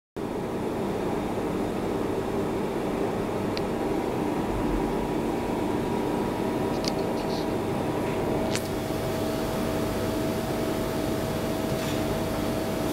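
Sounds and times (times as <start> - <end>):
lathe motors and pumps humming: 0.2 - 12.9.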